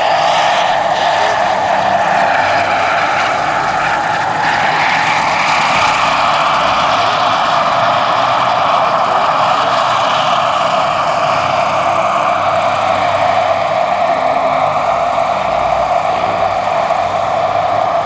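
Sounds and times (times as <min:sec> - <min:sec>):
model helicopter turbine whine: 0:00.0 - 0:18.0.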